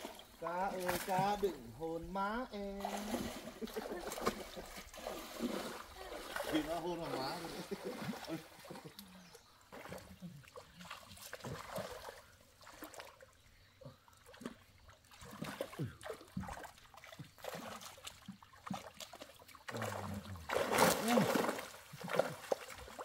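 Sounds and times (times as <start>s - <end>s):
pond water splashing: 0.0s - 23.0s.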